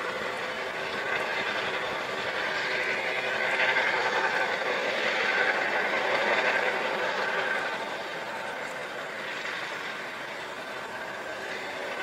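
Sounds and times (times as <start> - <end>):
helicopter rotor and turbine noise: 0.0 - 12.0.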